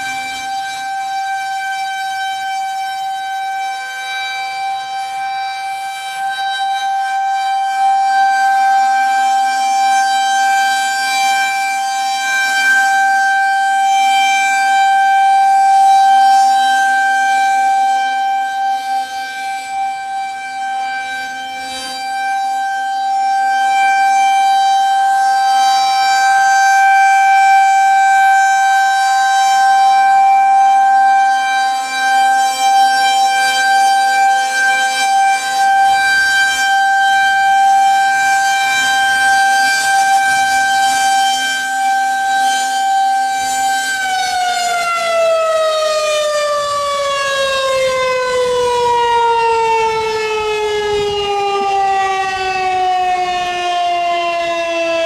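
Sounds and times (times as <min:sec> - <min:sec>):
rotating siren steady tone: 0:00.0 - 0:55.0.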